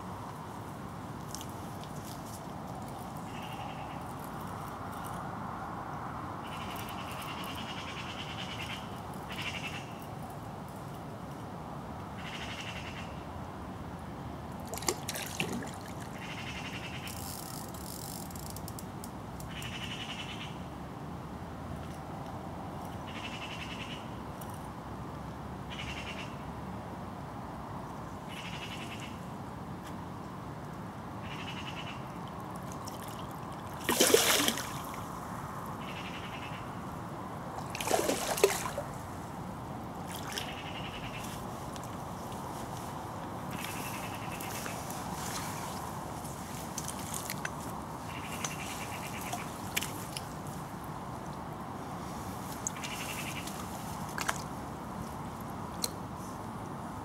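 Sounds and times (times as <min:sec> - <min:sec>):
river water running: 0:00.0 - 0:57.0.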